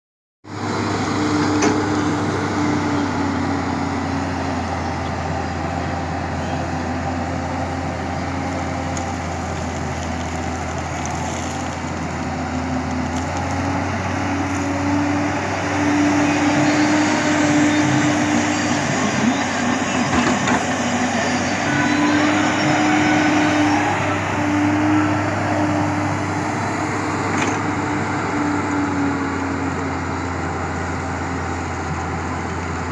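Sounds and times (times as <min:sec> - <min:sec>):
excavator engine hum: 0:00.5 - 0:32.9.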